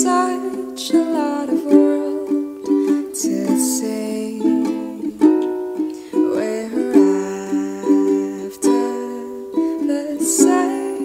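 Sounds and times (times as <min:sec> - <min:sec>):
plucked strings music: 0:00.0 - 0:11.0.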